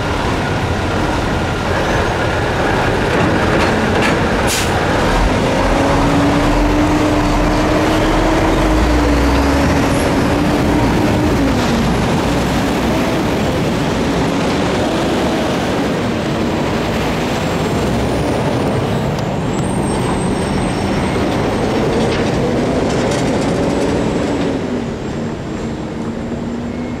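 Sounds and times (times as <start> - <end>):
freight train wheels rumbling on track: 0.0 - 27.0.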